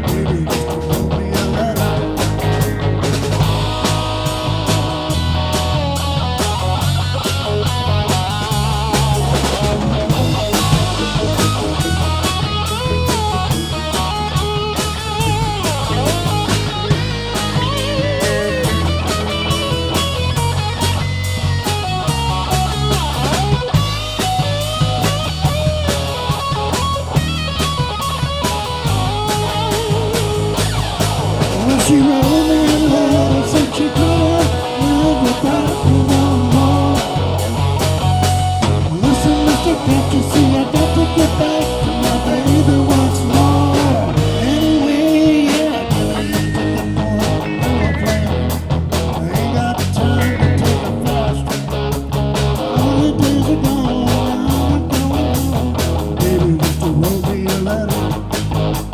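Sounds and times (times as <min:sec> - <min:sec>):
electric guitar: 0:00.0 - 0:58.9
rock band playing: 0:00.0 - 0:58.9
wavering guitar lead line: 0:00.0 - 0:58.9.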